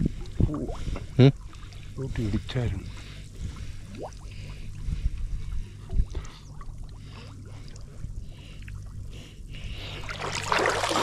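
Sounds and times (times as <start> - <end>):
water sloshing and trickling: 0.0 - 9.1, 9.7 - 11.0
steady low rumble: 0.0 - 11.0.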